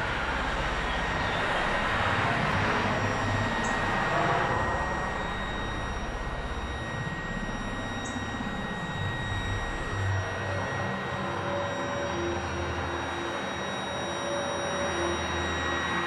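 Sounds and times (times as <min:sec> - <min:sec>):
thin steady high whine: 0:00.0 - 0:16.0.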